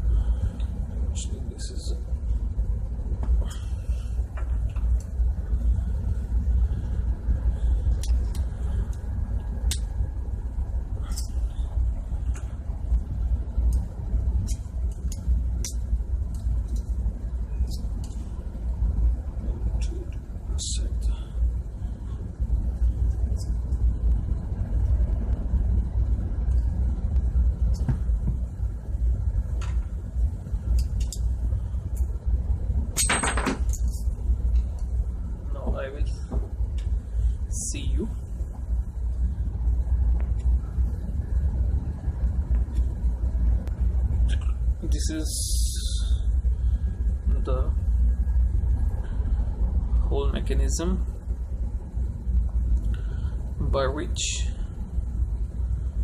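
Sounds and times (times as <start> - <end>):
low machinery rumble: 0.0 - 56.0.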